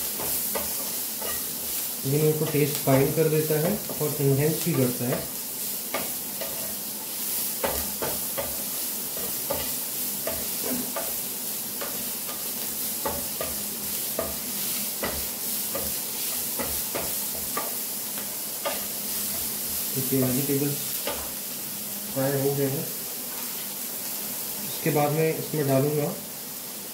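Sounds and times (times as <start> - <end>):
vegetables sizzling in oil: 0.0 - 26.9.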